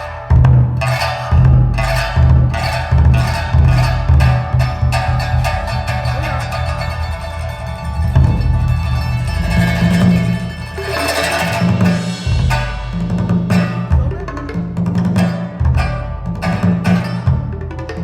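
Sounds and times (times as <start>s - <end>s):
deep drum strikes: 0.0s - 18.0s
sharp percussive hits: 0.0s - 18.0s.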